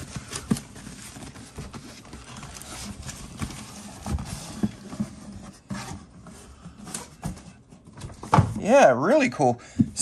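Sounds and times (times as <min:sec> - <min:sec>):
cardboard scraping and rustling: 0:00.0 - 0:08.6
boxes knocking and thumping: 0:00.0 - 0:08.8, 0:09.6 - 0:10.0.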